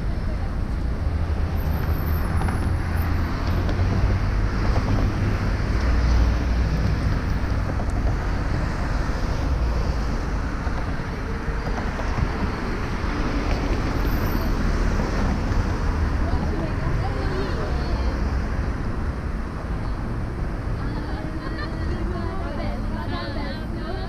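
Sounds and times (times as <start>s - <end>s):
wind rumbling on microphone: 0.0s - 21.4s
city street traffic: 0.0s - 24.0s.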